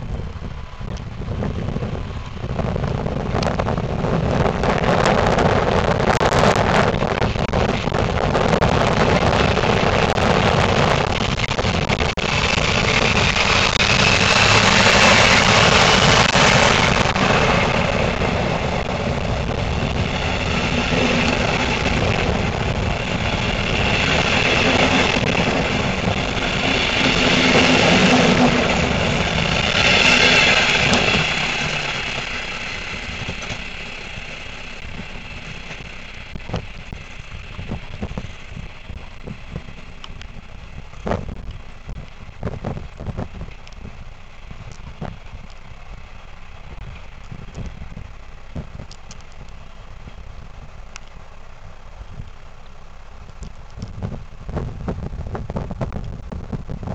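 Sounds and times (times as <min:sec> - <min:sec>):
train wheels on rails: 0:00.0 - 0:56.9.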